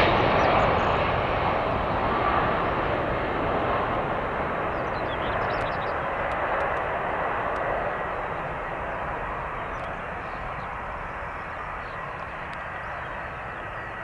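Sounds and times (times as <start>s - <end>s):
airliner jet engines landing: 0.0s - 14.0s.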